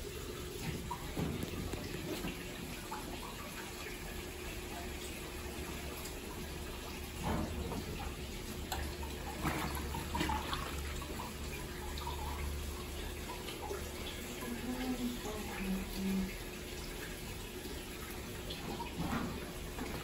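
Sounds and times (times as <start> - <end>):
water sloshing in washing machine: 0.0 - 20.0.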